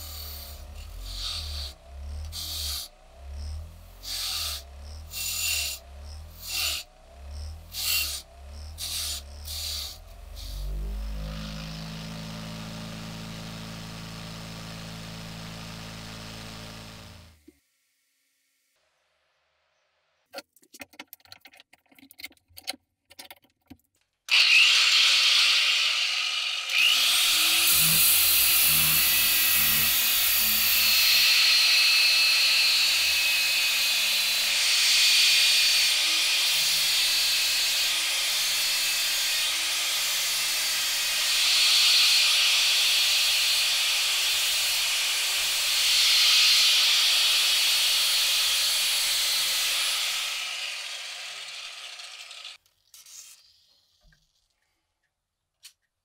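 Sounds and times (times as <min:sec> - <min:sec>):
angle grinder sanding metal: 0:00.0 - 0:17.4, 0:24.3 - 0:53.4.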